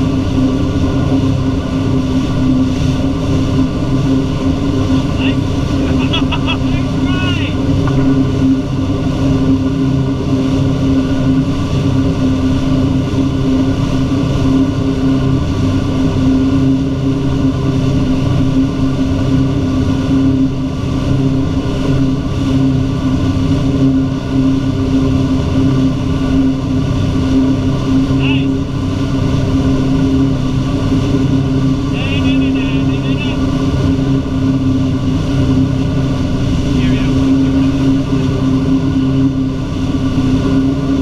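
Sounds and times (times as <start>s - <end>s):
boat engine humming: 0.0s - 41.0s
boat wake churning: 0.0s - 41.0s.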